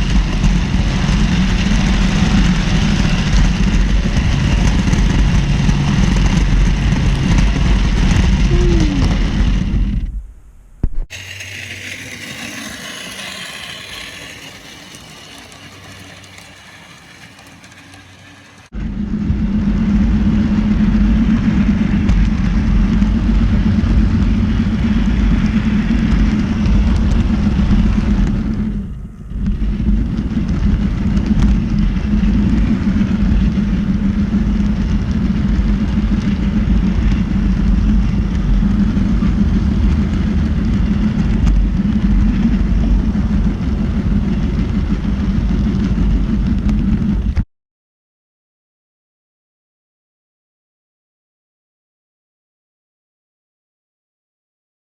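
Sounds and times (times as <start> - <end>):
model locomotive running hum: 0.0 - 9.1, 11.1 - 47.1.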